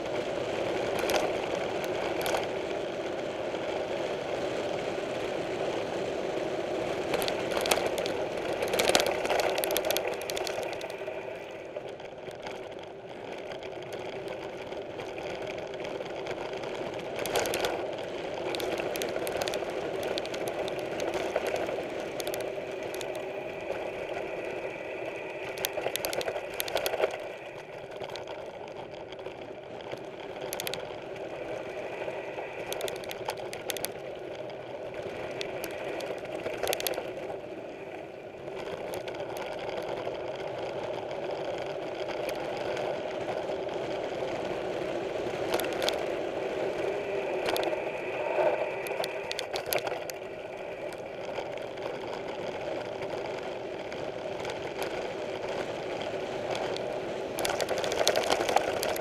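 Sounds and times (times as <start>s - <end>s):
bike rattles and clicks: 0.0s - 59.0s
bike whirring: 0.0s - 59.0s.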